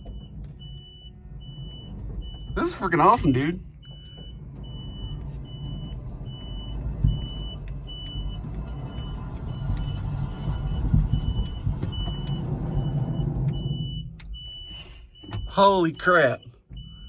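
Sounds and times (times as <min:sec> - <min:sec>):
reversing beeper: 0:00.0 - 0:17.0
truck rumbling backwards: 0:00.0 - 0:17.0.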